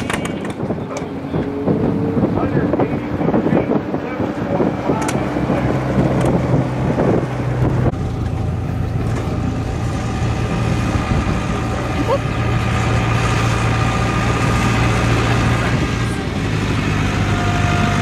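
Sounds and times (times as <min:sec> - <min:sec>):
tractor engine working hard: 0:00.0 - 0:18.0.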